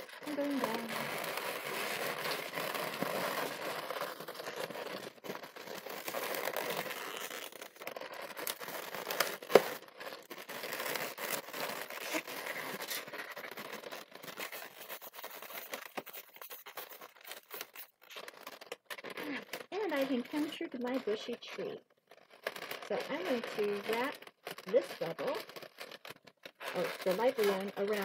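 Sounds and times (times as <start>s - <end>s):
balloons rubbing and creaking: 0.0s - 28.0s
small balloon clicks: 0.0s - 28.0s.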